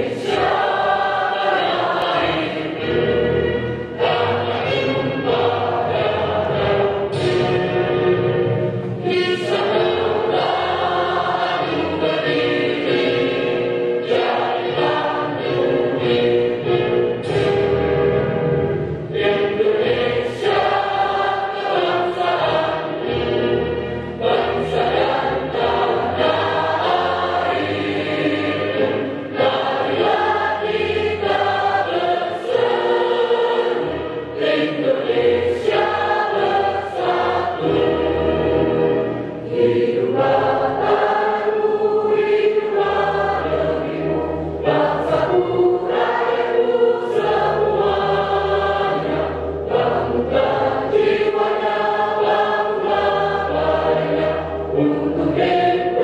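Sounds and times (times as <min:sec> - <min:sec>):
women's choir singing: 0:00.0 - 0:08.4, 0:09.0 - 0:17.9, 0:18.8 - 0:56.0.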